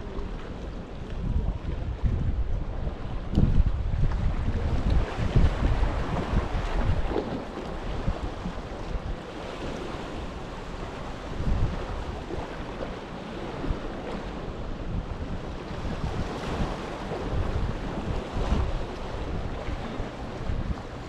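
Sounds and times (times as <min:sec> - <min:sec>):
waves washing against shore: 0:00.0 - 0:21.0
wind rumbling on microphone: 0:00.0 - 0:21.0.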